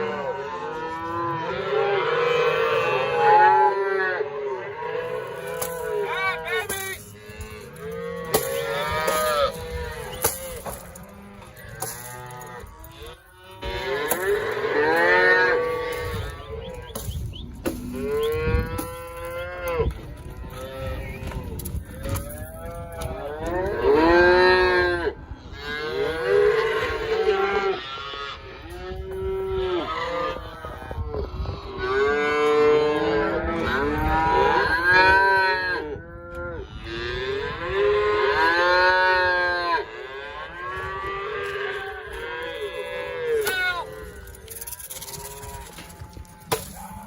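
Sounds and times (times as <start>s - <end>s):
cattle mooing and bawling: 0.0s - 17.1s, 17.7s - 47.0s.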